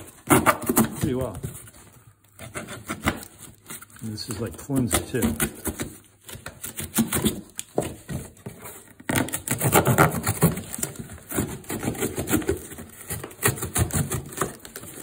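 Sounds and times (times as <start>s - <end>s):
knife blade sawing cardboard: 0.0s - 15.0s.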